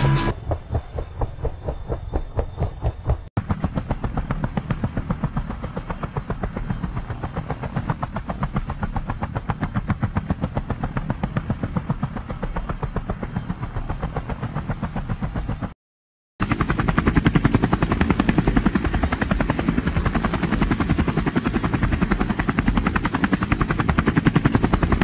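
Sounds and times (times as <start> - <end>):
helicopter rotor blades beating: 0.0 - 15.8, 16.4 - 25.0.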